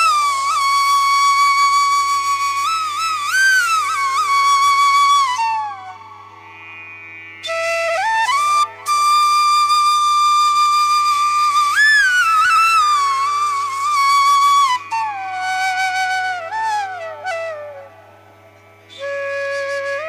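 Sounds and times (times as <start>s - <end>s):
slow solo melody: 0.0s - 20.0s.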